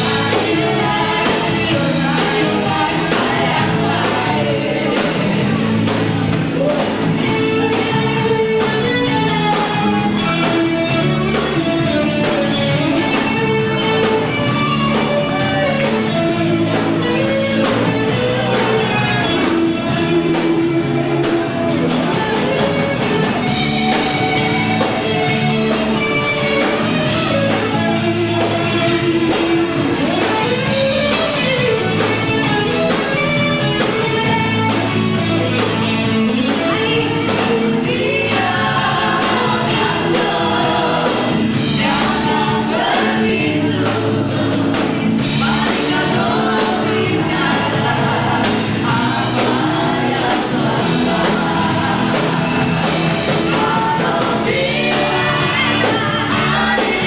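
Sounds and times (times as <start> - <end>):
live band playing: 0.0 - 57.0
person singing: 0.0 - 57.0.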